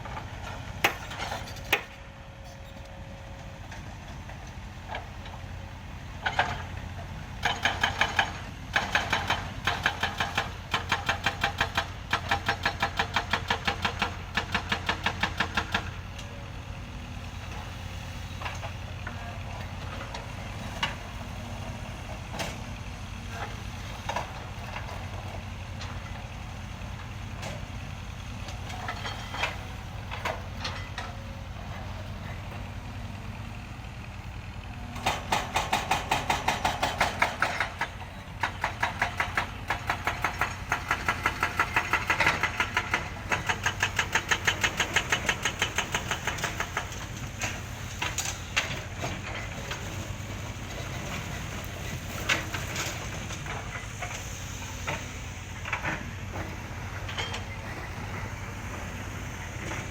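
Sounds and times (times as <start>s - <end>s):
heavy vehicle engine idling: 0.0s - 59.9s.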